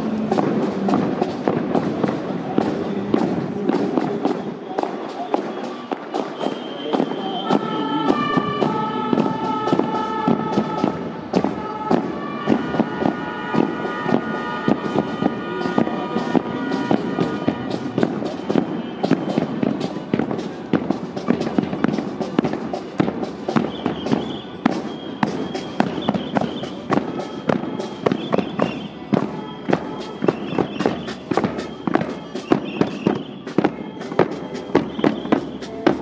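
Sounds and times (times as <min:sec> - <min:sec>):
wind instrument held notes: 0:04.6 - 0:20.7, 0:21.3 - 0:36.0
rapid drum strikes: 0:07.0 - 0:36.0.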